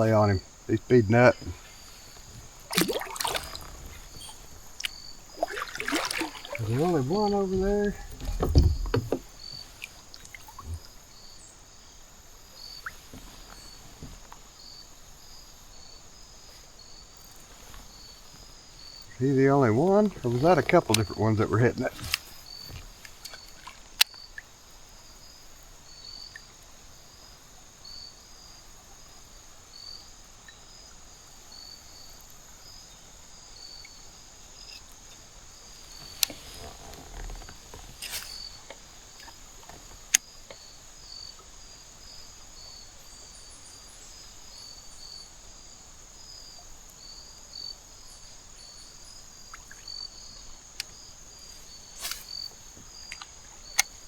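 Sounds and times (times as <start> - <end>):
high insect buzz: 0.0 - 26.4, 31.5 - 54.0
crickets chirping: 0.0 - 54.0.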